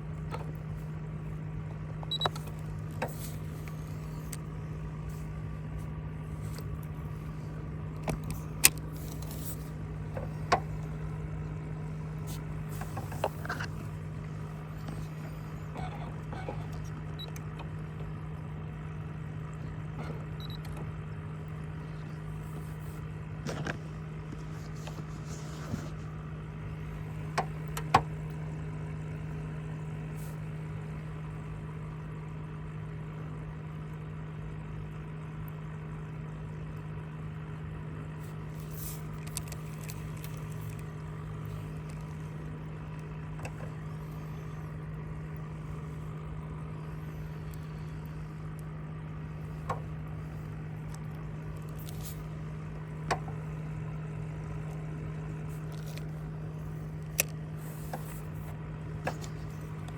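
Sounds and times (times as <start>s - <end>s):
motor humming: 0.0s - 32.1s, 36.5s - 59.9s.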